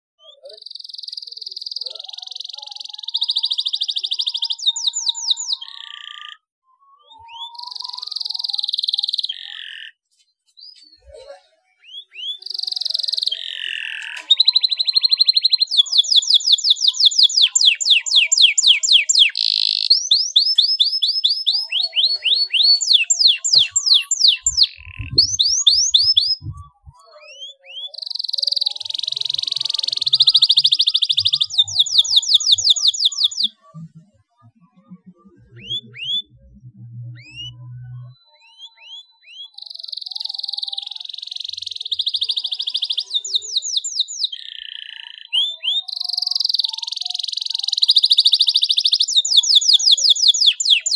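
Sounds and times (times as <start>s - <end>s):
canary singing buzzy trills: 0.2s - 10.0s, 11.7s - 34.0s, 35.4s - 50.9s.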